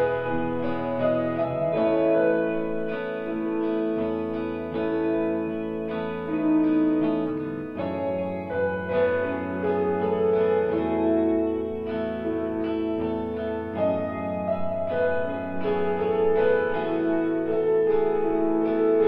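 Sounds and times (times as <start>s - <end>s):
slow guitar music: 0.0s - 19.0s.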